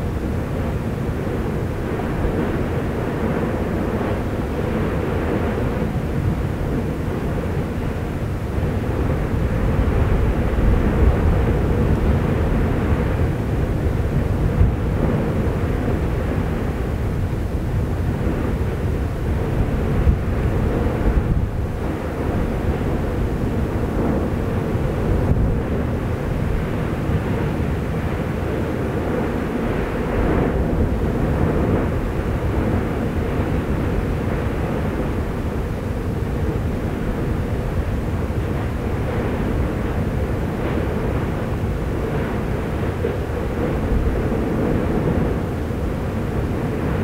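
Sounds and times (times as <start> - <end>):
low rumble of volcano: 0.0 - 47.0.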